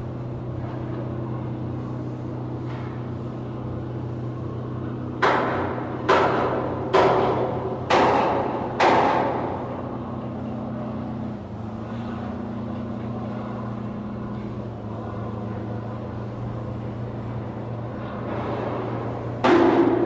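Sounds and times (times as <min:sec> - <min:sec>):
low machinery drone: 0:00.0 - 0:20.0.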